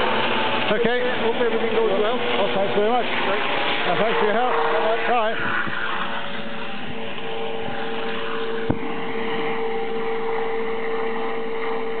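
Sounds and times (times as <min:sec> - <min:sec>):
helicopter rotor and engine: 0:00.0 - 0:12.0
steady whine: 0:00.0 - 0:12.0.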